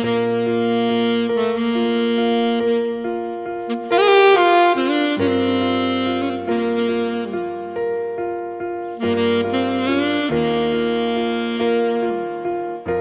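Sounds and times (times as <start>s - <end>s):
slow saxophone instrumental: 0.0s - 13.0s.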